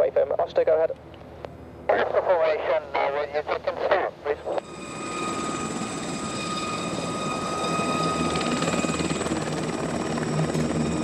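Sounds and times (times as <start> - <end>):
aircraft turbine engine whine: 1.5 - 11.0.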